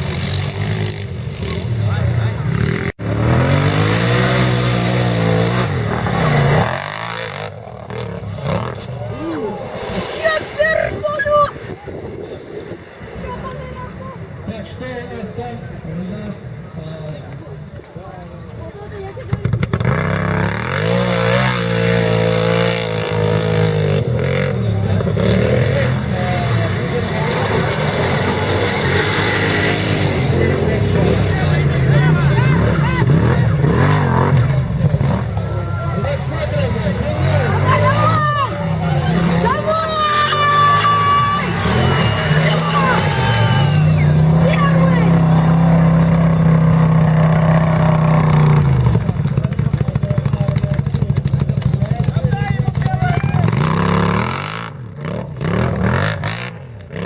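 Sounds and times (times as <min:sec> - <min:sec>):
quad bike engine revving: 0:00.0 - 0:11.7, 0:18.7 - 0:57.0.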